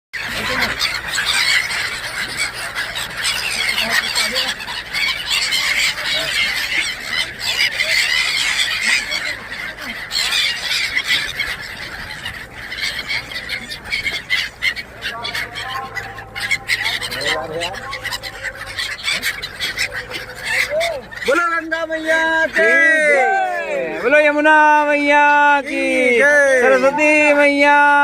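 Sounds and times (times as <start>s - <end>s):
flock of waterbirds squawking: 0.2s - 28.0s.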